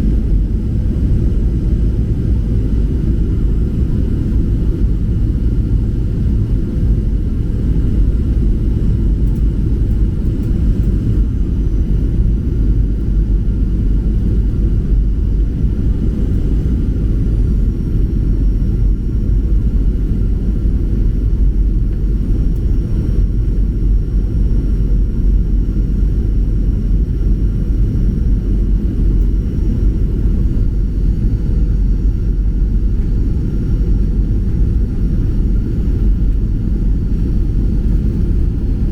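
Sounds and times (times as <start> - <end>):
jet engine and airflow rumble: 0.0 - 38.9.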